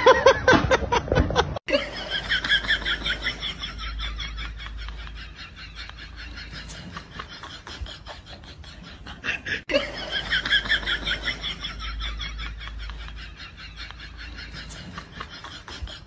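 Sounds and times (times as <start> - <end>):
people laughing: 0.0 - 16.0.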